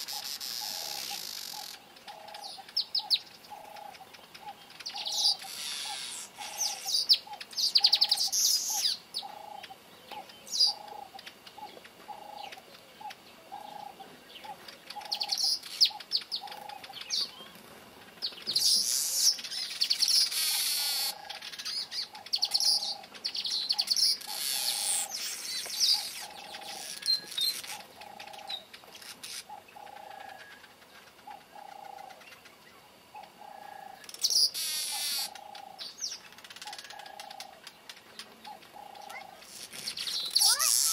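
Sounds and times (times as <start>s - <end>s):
birds chattering buzzy song: 0.0s - 40.9s.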